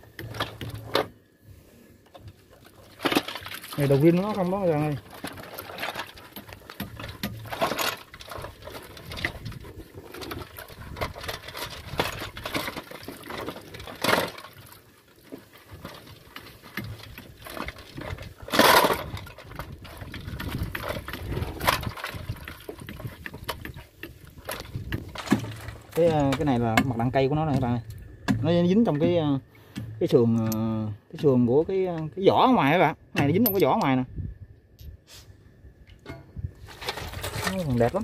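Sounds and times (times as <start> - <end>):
oily liquid sloshing: 2.0 - 30.5, 35.8 - 38.0.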